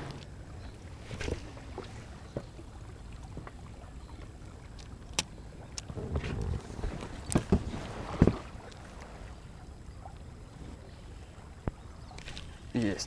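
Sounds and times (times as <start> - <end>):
low wind: 0.0 - 13.0
water noise around boat: 0.0 - 13.0.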